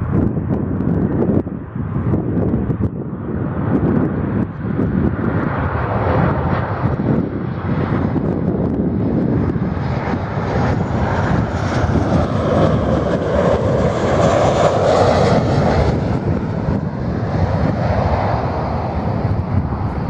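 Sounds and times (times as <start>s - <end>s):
jet engines drone: 0.0s - 20.0s.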